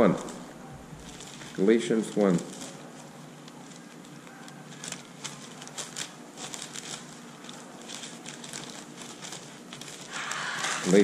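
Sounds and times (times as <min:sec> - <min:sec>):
paper pages rustling: 0:00.0 - 0:11.0
small crackles: 0:00.0 - 0:11.0.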